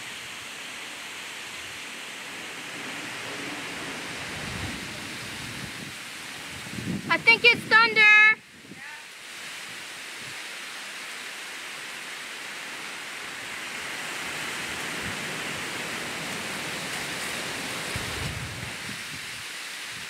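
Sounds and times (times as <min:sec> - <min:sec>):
rain on trees and grass: 0:00.0 - 0:20.0.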